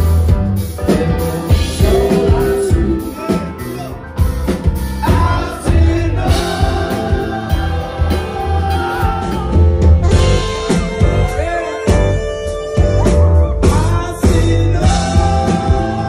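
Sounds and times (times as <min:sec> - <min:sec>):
drums: 0:00.0 - 0:16.0
man singing: 0:00.8 - 0:04.1, 0:05.0 - 0:16.0.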